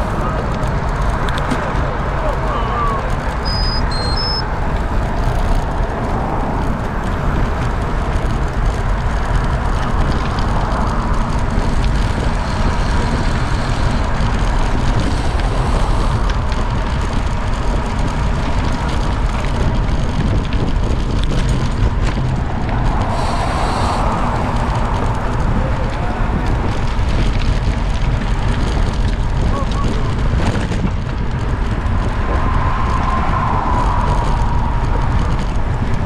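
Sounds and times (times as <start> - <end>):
road noise: 0.0 - 36.0
wind rushing over microphone: 0.0 - 36.0.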